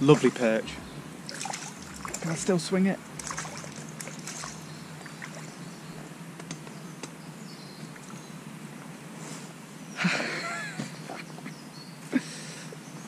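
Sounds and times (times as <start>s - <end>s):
outdoor water ambience hiss: 0.0s - 13.0s.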